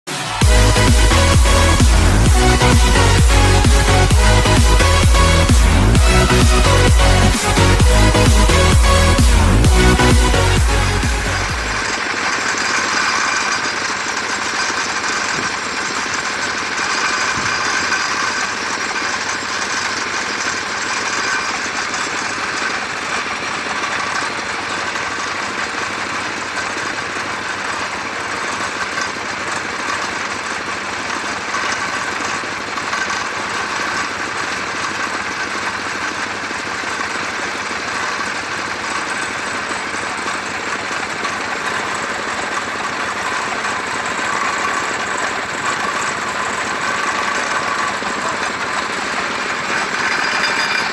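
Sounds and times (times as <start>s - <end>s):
sawmill saw cutting wood: 0.0s - 50.9s.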